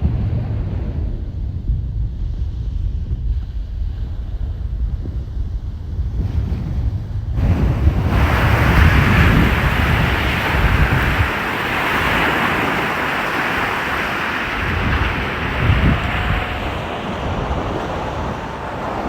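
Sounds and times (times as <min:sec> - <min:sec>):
wind buffeting microphone: 0:00.0 - 0:19.0
ocean waves washing on shore: 0:03.5 - 0:19.0.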